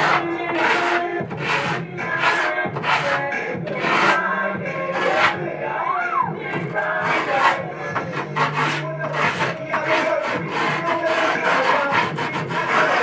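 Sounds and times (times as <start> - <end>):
grip tape being scraped: 0.0 - 4.2, 4.9 - 5.4, 6.6 - 13.0.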